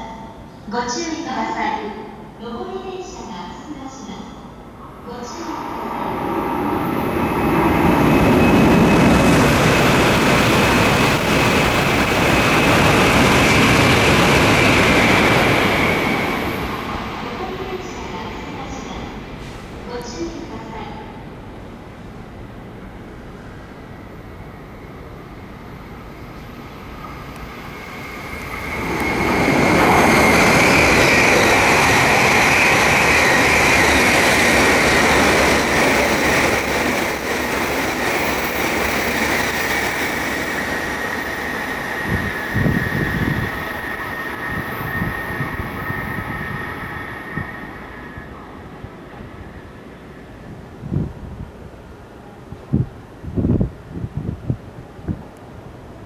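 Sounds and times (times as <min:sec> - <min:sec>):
high train whine: 0:00.1 - 0:56.0
high-speed train passing: 0:00.4 - 0:56.0.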